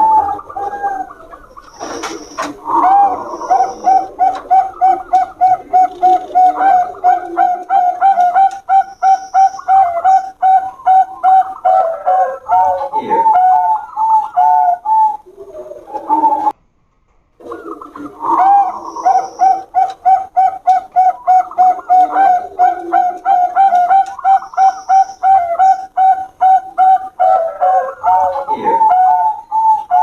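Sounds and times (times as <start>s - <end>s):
doves cooing: 0.0s - 16.6s, 17.4s - 30.0s.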